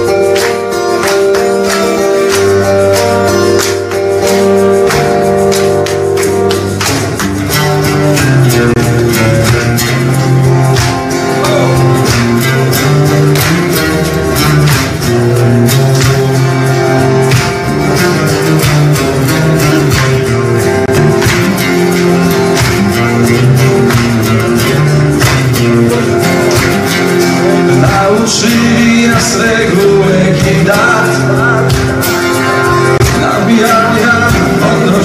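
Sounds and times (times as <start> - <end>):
acoustic guitars strumming and picking: 0.0 - 35.0
cajon beat: 0.0 - 35.0
hand percussion: 0.0 - 35.0.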